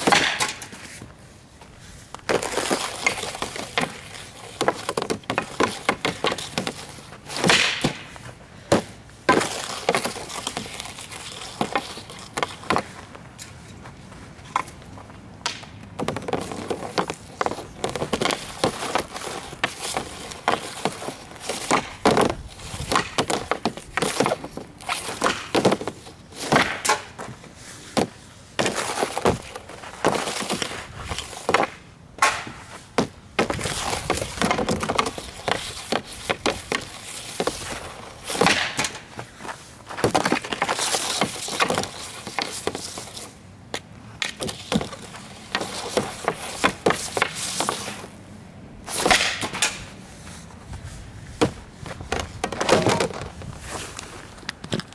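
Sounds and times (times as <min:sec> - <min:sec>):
stick cracking against puck: 0:00.0 - 0:01.1, 0:02.2 - 0:13.6, 0:15.4 - 0:27.3, 0:27.9 - 0:48.2, 0:48.9 - 0:50.0, 0:51.4 - 0:54.9
hockey stick scraping ice: 0:00.0 - 0:13.8, 0:16.0 - 0:54.9.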